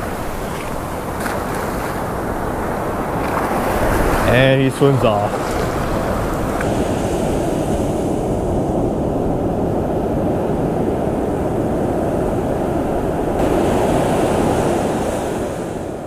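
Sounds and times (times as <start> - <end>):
ocean surf washing up beach: 0.0 - 16.0
wind rumble on microphone: 0.0 - 16.0.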